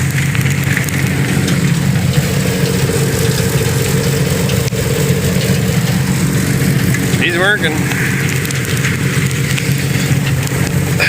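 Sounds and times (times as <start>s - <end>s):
silo unloader humming: 0.0s - 11.0s.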